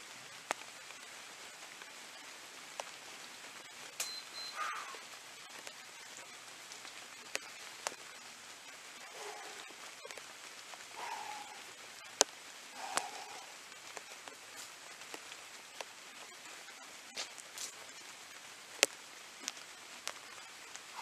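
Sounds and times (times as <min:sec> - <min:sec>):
rain falling steadily: 0:00.0 - 0:21.0.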